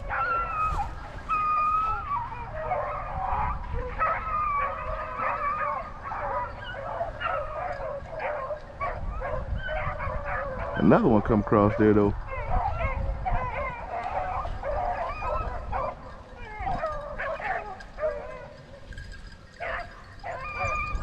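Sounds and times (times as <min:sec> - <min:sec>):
dogs baying: 0:00.0 - 0:21.0.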